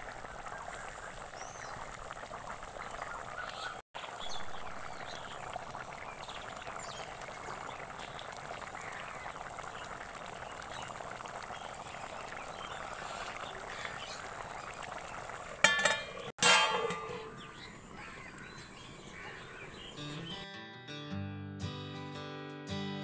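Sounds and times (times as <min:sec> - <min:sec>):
thick liquid bubbling and popping: 0:00.0 - 0:18.6.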